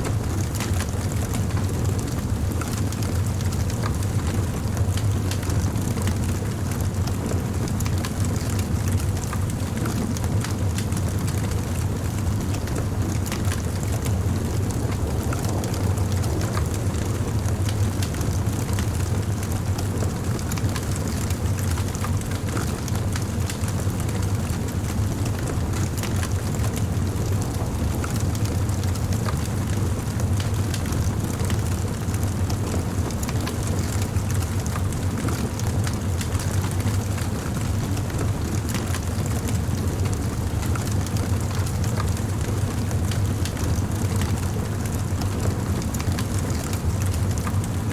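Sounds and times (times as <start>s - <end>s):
low fire rumble: 0.0s - 47.9s.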